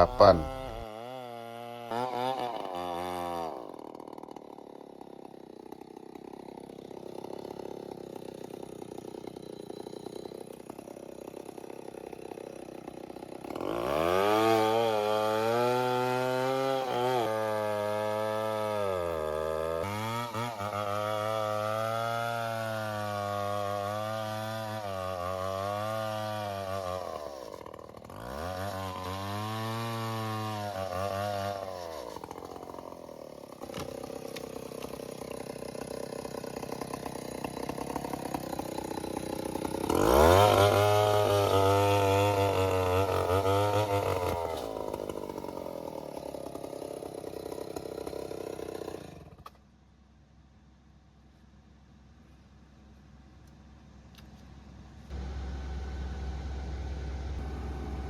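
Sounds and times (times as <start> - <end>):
chainsaw cutting log: 0.0 - 49.7, 55.1 - 58.0.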